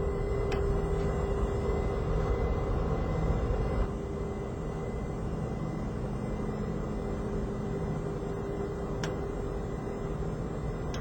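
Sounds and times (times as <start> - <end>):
aircraft cockpit rumble: 0.0 - 11.0
faint steady hum: 0.0 - 11.0.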